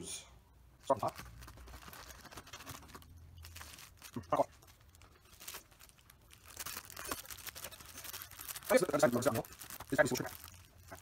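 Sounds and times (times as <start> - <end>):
plastic bag crinkling and tearing: 0.8 - 11.0.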